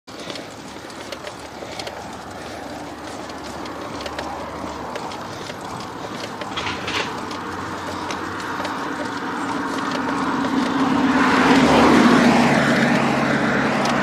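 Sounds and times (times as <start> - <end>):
bicycle tyre noise on asphalt: 0.1 - 14.0.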